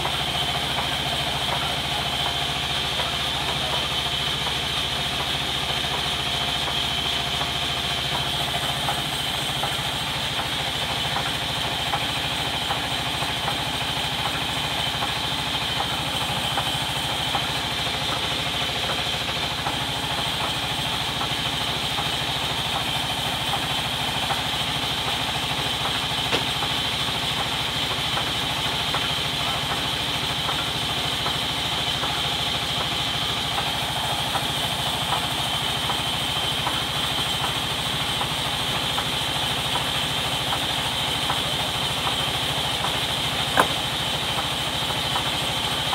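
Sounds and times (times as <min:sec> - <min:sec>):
sawmill drive droning: 0:00.0 - 0:45.9.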